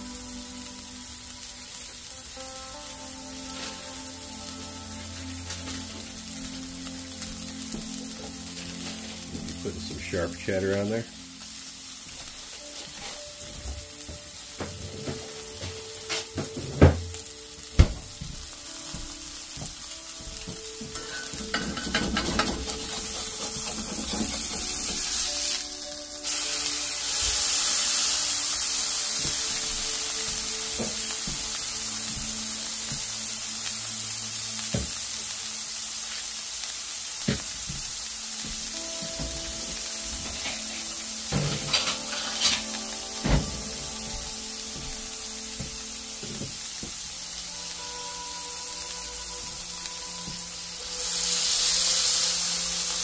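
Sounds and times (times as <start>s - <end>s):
burger patties sizzling in skillet: 0.0s - 53.0s.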